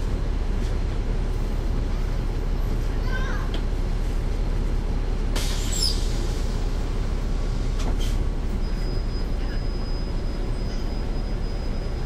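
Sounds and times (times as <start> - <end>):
bus diesel engine running: 0.0 - 12.0
road noise: 0.0 - 12.0.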